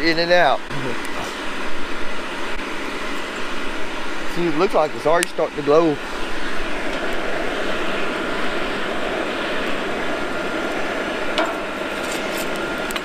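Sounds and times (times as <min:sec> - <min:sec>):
blower motor whine: 0:00.0 - 0:13.0
forge fire roaring: 0:00.0 - 0:13.0.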